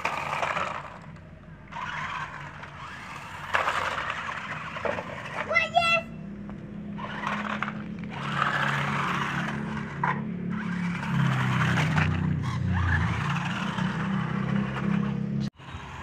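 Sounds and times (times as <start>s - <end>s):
toy car electric motor whine: 0.0s - 5.8s, 6.9s - 16.0s
tyres scraping on gravel: 0.0s - 16.0s.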